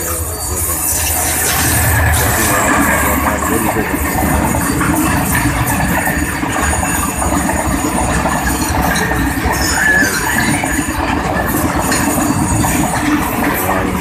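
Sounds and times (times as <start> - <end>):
train wheels rumbling on track: 0.0 - 14.0
wheel squeal: 0.0 - 14.0.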